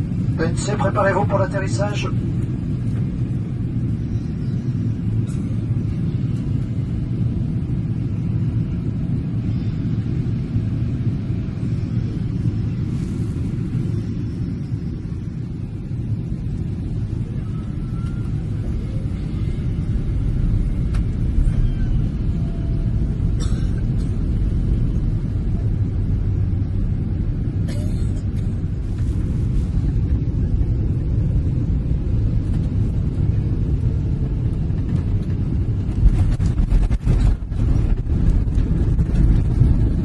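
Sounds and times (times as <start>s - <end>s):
aircraft engines and airflow rumble: 0.0s - 40.0s.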